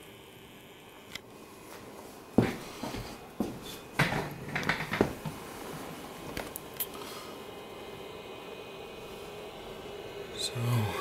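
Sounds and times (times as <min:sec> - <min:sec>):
cooling fans humming: 0:00.0 - 0:11.0.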